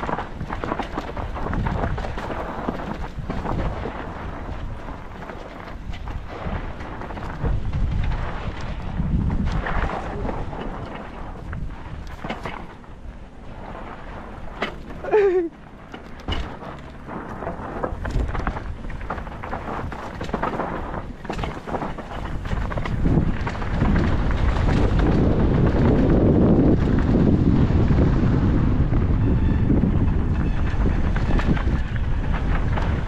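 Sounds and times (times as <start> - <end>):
bike knocking over rough ground: 0.0 - 33.0
tyres rumbling over loose dirt: 0.0 - 33.0
wind buffeting microphone: 0.0 - 33.0.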